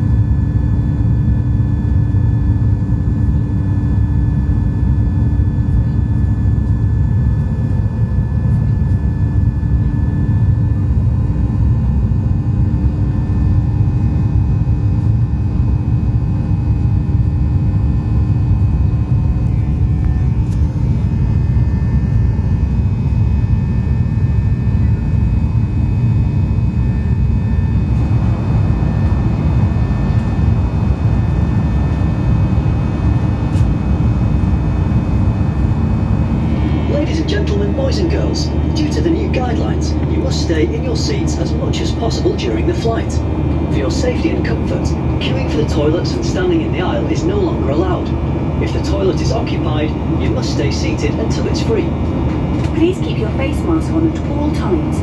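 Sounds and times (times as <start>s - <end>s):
faint hum tones: 0.0s - 55.0s
jet engine cabin rumble: 0.0s - 55.0s.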